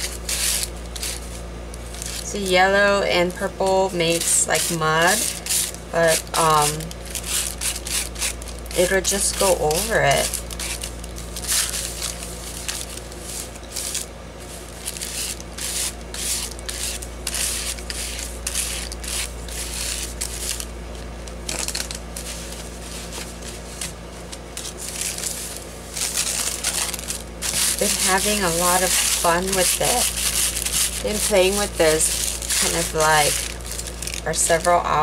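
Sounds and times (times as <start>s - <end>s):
steady low hum: 0.0s - 35.0s
waxed paper crinkling and scraping: 0.0s - 35.0s.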